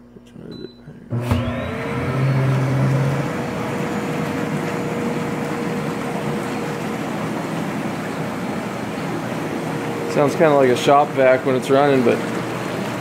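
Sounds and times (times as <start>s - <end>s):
low hum: 0.2s - 11.6s
hot tub bubble blower rushing: 1.1s - 13.0s.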